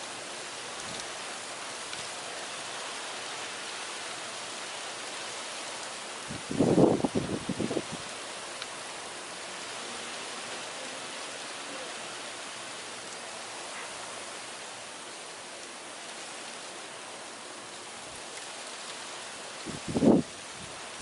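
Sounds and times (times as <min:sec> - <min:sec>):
high wind hiss: 0:00.0 - 0:21.0.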